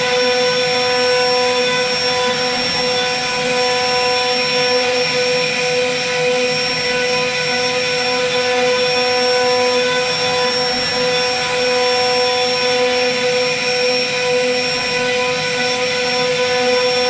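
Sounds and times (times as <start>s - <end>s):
cnc router spindle whine: 0.0s - 17.0s.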